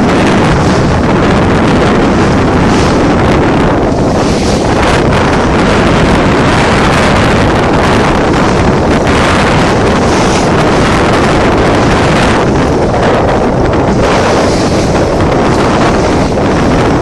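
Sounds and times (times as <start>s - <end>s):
waves rushing: 0.0s - 17.0s
wind buffeting microphone: 0.0s - 17.0s.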